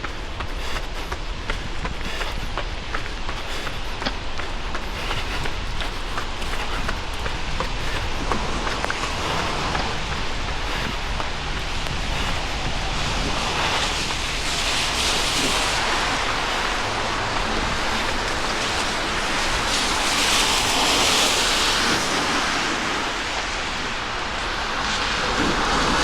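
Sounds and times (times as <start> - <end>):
rain on wet street: 0.0 - 26.0.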